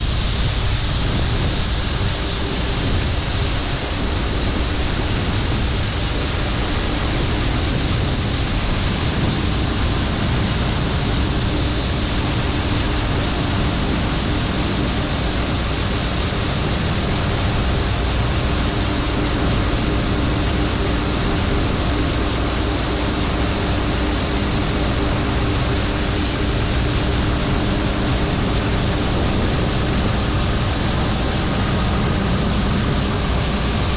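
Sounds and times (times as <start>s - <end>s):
faint engine hum: 0.0s - 33.9s
harvest machinery rushing noise: 0.0s - 33.9s.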